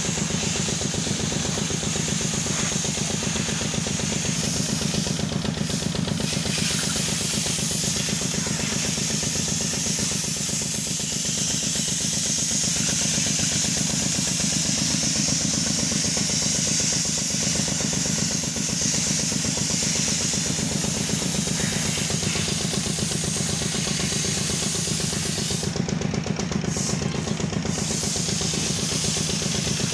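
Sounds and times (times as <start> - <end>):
engine idling with chugging: 0.0 - 29.9.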